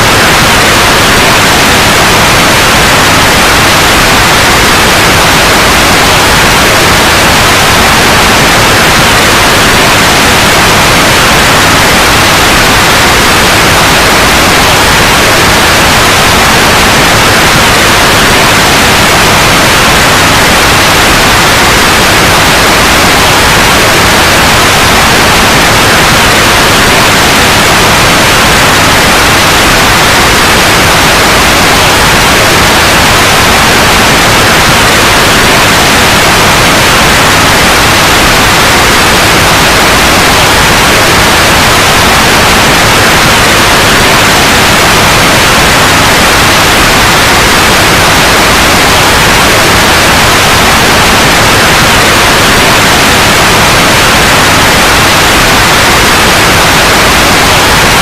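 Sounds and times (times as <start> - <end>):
loud white noise hiss: 0.0 - 58.0.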